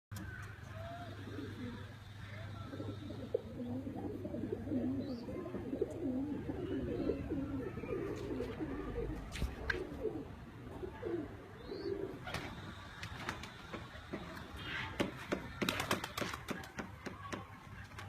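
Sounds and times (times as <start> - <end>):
pigeons cooing: 0.6 - 16.3.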